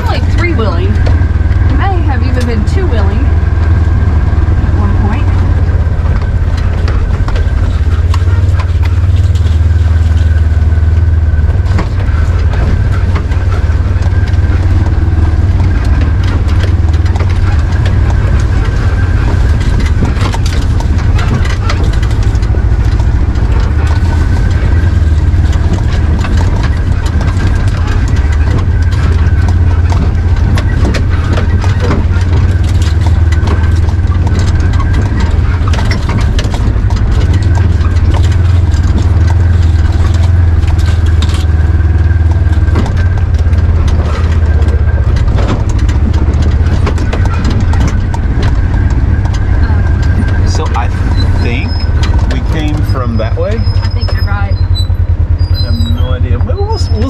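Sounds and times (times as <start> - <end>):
rattles and knocks: 0.0 - 57.0
utility vehicle engine droning: 0.0 - 57.0.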